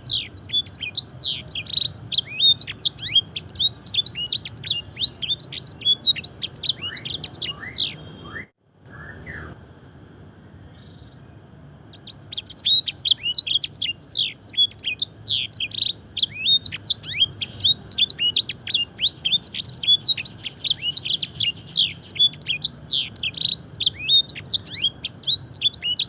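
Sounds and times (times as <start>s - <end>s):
canary singing: 0.0s - 9.6s, 10.7s - 26.0s.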